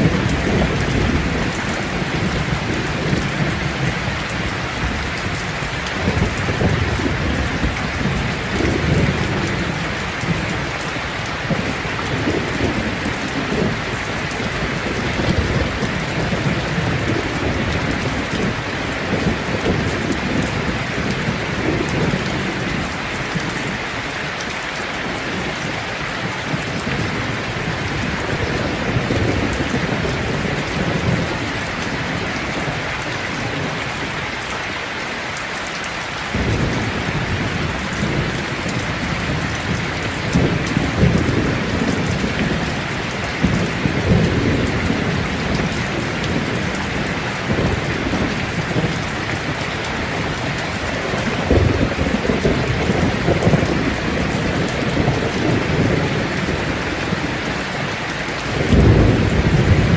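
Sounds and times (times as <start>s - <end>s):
low rolling thunder: 0.0s - 23.9s, 25.0s - 34.0s, 36.3s - 59.9s
steady rain: 0.0s - 59.9s.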